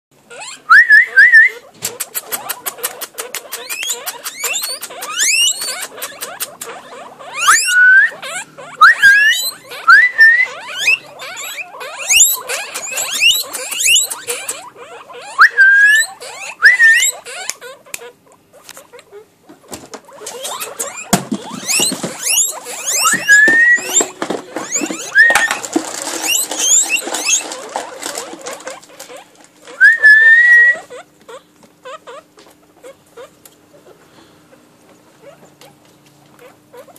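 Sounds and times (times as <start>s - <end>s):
guinea pigs squealing: 0.2s - 36.9s.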